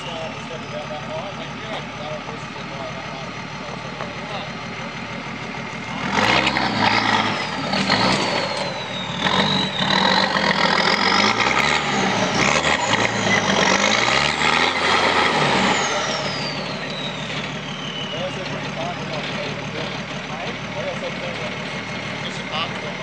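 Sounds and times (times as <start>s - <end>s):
engine revving under load: 0.0s - 23.0s
high whine: 0.0s - 23.0s.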